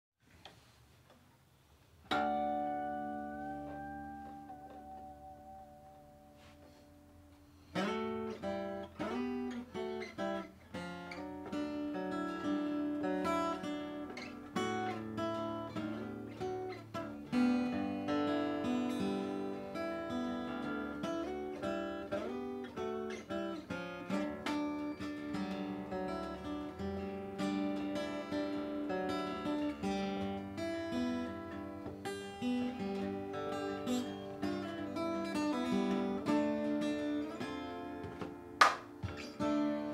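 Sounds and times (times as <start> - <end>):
acoustic guitar playing: 1.9 - 39.9.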